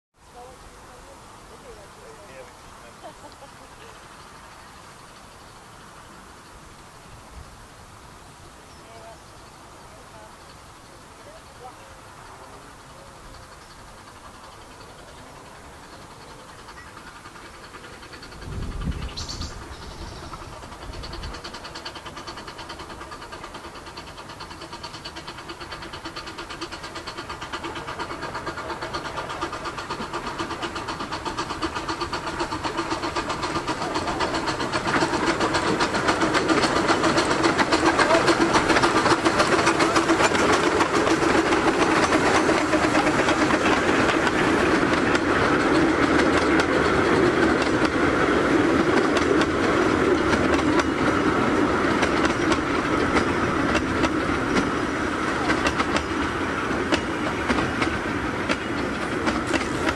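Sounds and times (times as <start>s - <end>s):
steam locomotives: 0.2s - 59.9s
carriages rattling over rail joints: 0.4s - 7.2s, 8.9s - 59.9s.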